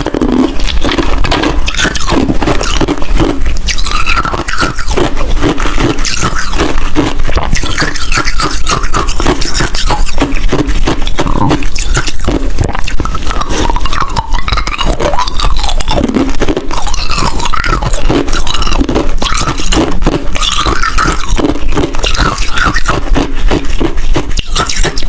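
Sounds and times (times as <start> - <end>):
ice crunching being chewed: 0.0 - 25.0.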